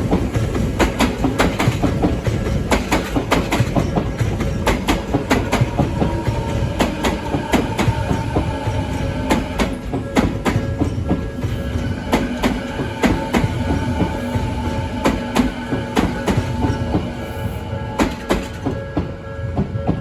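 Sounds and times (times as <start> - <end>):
train rumbling past: 0.0 - 20.0
wheels clacking over rail joints: 0.0 - 20.0.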